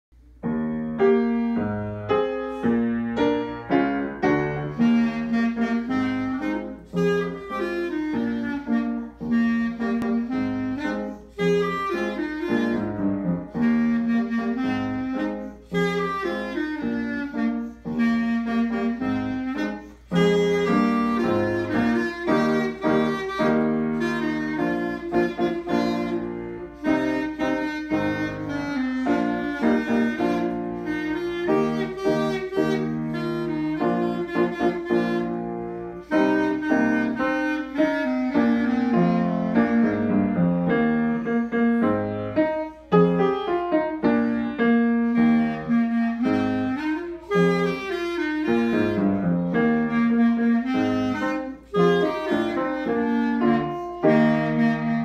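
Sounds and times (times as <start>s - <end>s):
clarinet melody: 0.1s - 55.0s
upright piano accompaniment: 0.1s - 55.0s.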